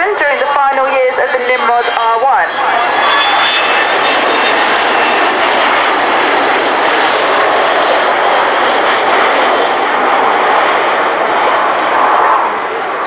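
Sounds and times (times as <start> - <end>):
high jet whine: 0.0 - 13.0
jet roar: 0.0 - 13.0.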